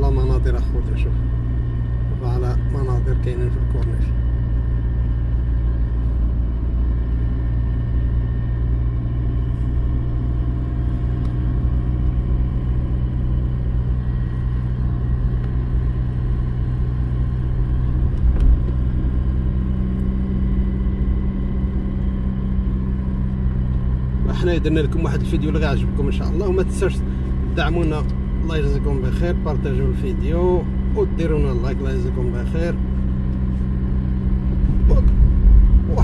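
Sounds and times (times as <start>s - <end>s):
car engine and tyres on wet road: 0.0s - 36.0s.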